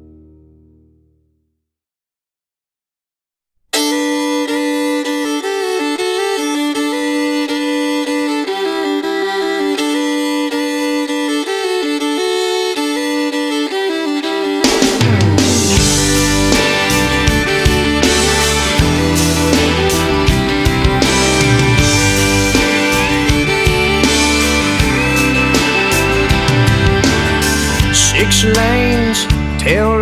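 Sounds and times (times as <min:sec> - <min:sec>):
country instrumental with fiddle: 0:03.7 - 0:30.0.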